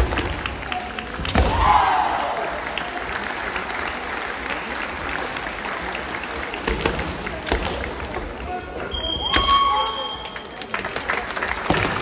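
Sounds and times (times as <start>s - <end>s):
spectators clapping: 0.0s - 8.9s, 10.0s - 12.0s.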